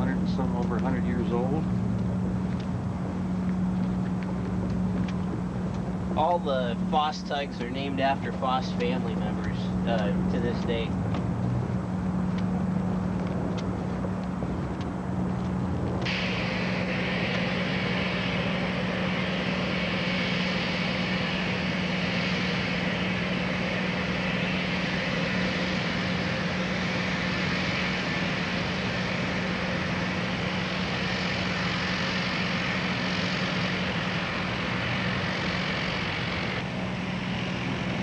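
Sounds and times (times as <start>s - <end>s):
floatplane engine drone: 0.0s - 38.0s.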